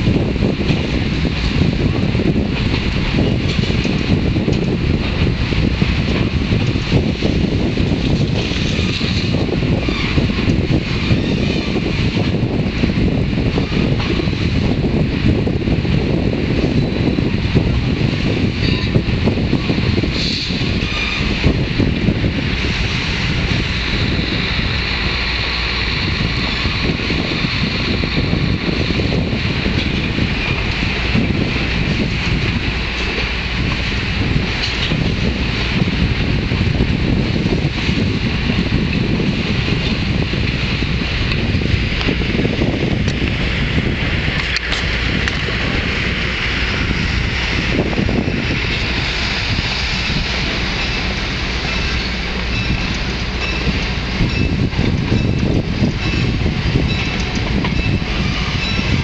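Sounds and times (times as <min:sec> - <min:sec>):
train wheels rumbling on rails: 0:00.0 - 0:59.0
wind noise on microphone: 0:00.0 - 0:59.0.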